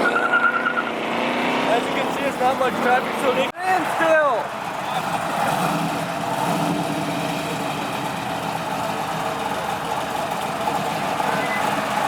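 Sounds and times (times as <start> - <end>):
car engines idling: 0.0 - 12.0.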